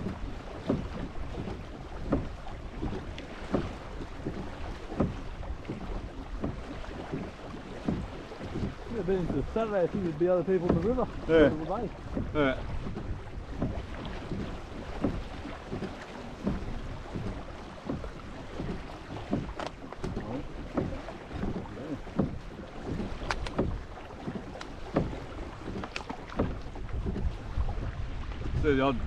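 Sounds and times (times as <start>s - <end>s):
water splashing against hull: 0.0s - 29.0s
wind rumble on microphone: 0.0s - 29.0s.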